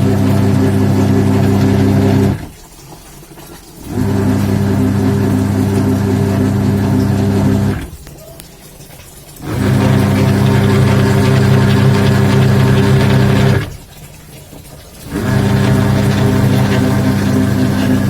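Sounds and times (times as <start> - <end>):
washing machine motor humming: 0.0 - 18.0.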